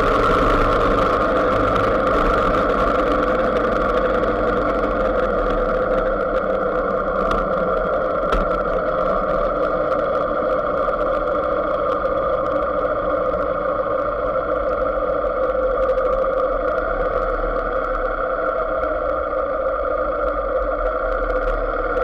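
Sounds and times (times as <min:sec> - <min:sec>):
motorcycle engine drone: 0:00.0 - 0:22.0.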